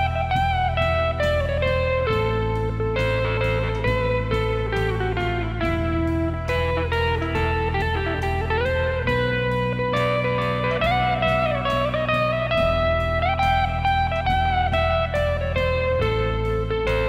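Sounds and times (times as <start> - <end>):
bass line: 0.0 - 17.0
guitar melody with sliding notes: 0.0 - 17.0.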